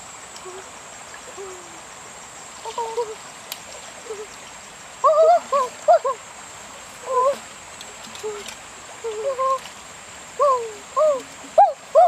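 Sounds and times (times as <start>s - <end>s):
stream trickling over rock: 0.0s - 12.0s.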